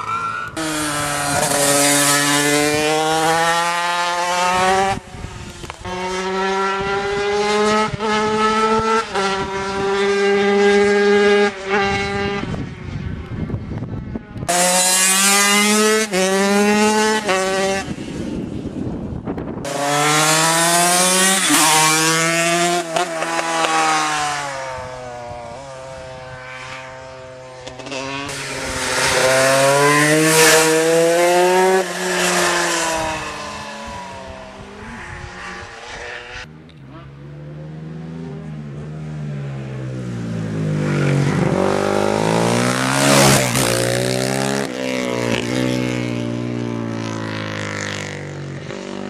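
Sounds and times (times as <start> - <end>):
racing motorcycle engines: 0.0 - 49.0.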